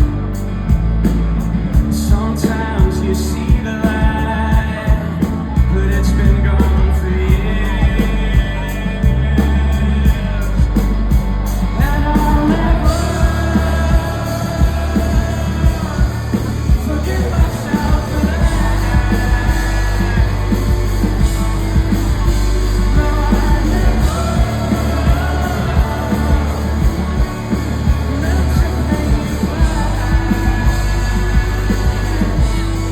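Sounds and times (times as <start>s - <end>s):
heavy bass: 0.0s - 32.9s
rock band playing live: 0.0s - 32.9s
person singing: 1.9s - 32.9s.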